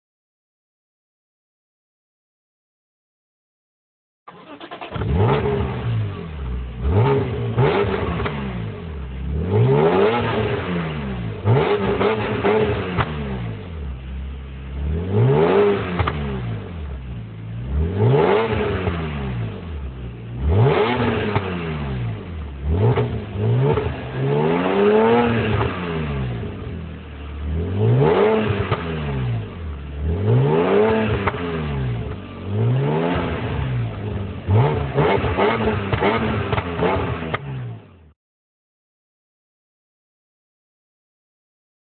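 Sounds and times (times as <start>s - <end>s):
car engine revving: 4.3s - 38.0s.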